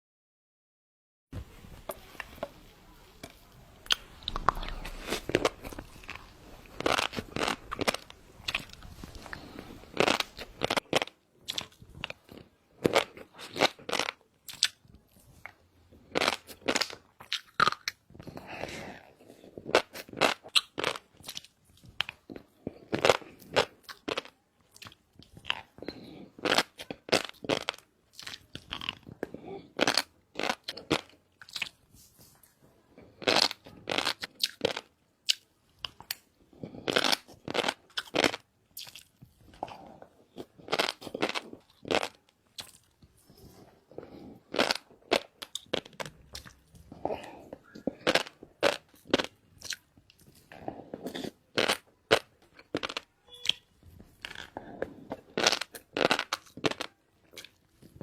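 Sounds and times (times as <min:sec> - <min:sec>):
crunchy chewing: 0:03.2 - 0:32.0, 0:32.9 - 0:58.0.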